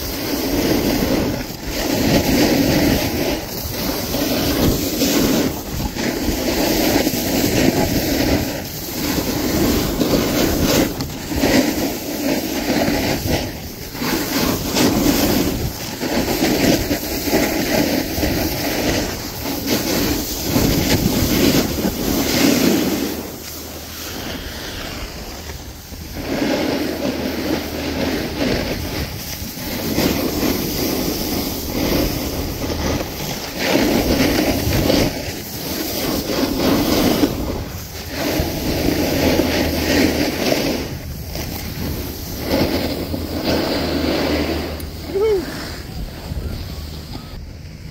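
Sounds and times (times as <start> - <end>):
snowboard edge scraping snow: 0.0 - 47.9
wind rushing over microphone: 0.0 - 47.9.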